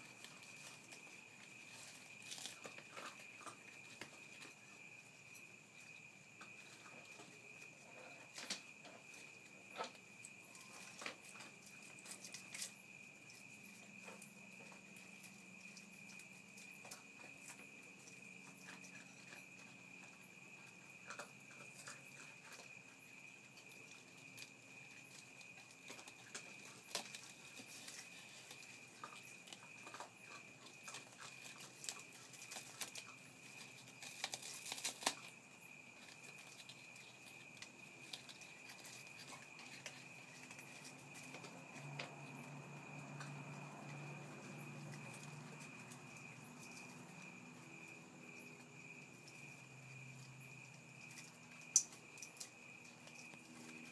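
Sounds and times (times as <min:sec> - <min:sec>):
animals crunching leaves and stems: 0:00.0 - 0:53.9.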